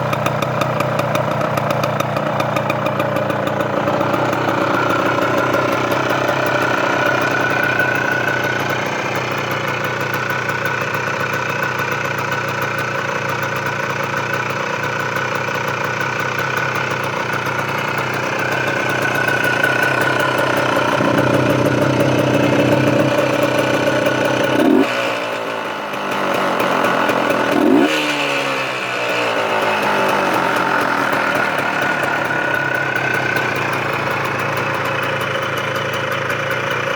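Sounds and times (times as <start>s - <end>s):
motorcycle engine idling and revving: 0.0s - 36.9s.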